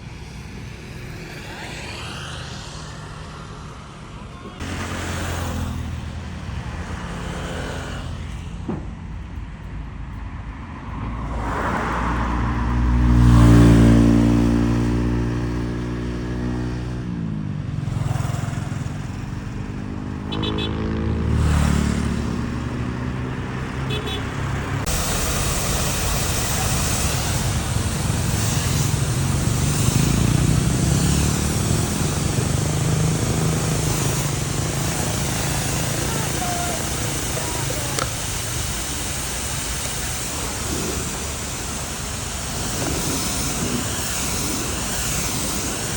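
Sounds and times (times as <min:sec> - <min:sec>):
heavy vehicle engine revving: 0:04.6 - 0:08.7, 0:11.2 - 0:45.9.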